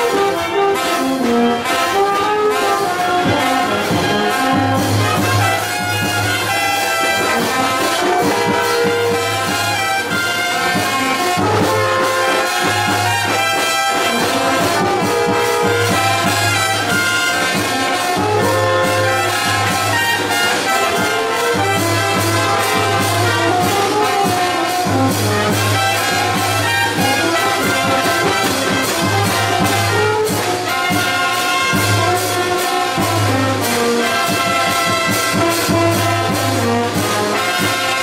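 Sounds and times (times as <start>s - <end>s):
low brass bass line: 0.0s - 38.0s
steady drum beat: 0.0s - 38.0s
trumpets and trombones: 0.0s - 38.0s.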